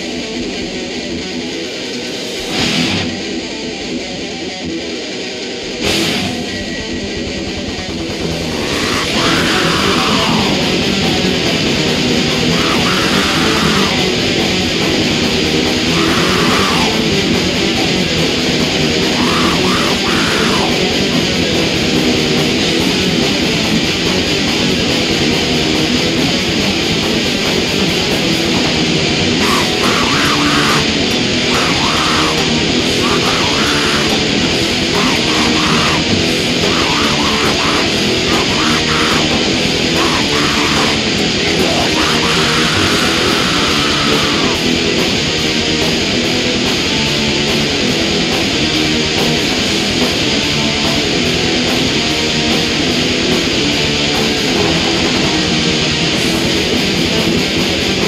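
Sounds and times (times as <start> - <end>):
heavy metal music: 0.0 - 58.0.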